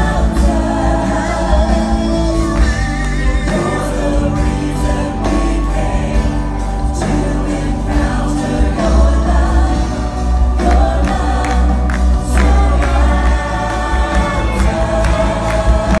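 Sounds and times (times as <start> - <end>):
electric guitars: 0.0 - 16.0
keyboard: 0.0 - 16.0
people singing together: 0.0 - 16.0
steady bass line: 0.0 - 16.0.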